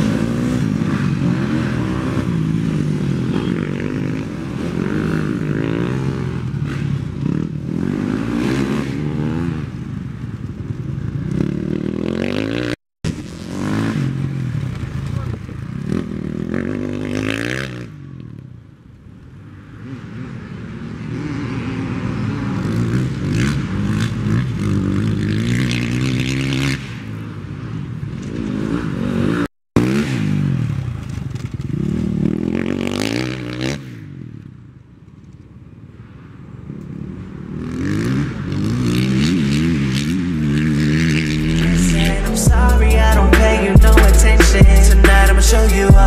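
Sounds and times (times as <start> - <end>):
dirt bike engines revving: 0.0 - 35.6, 36.2 - 46.0.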